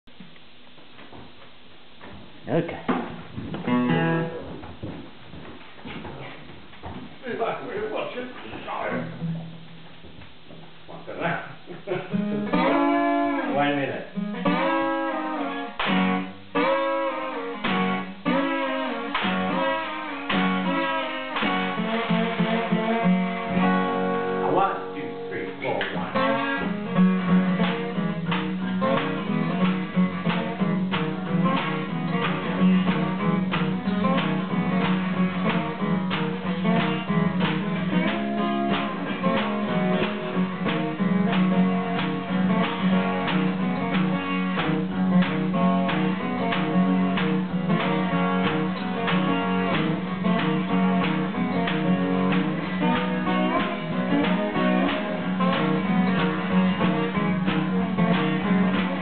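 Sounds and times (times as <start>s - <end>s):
strummed acoustic guitar rhythm: 0.1s - 59.0s
slide guitar: 2.5s - 5.0s, 7.6s - 10.0s, 11.4s - 59.0s.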